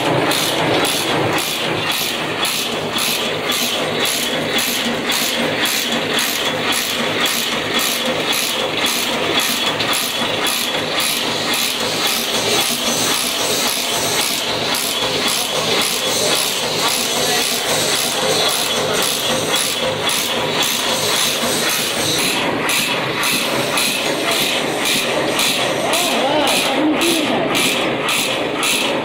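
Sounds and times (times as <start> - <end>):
machine clattering rhythmically: 0.0 - 29.0.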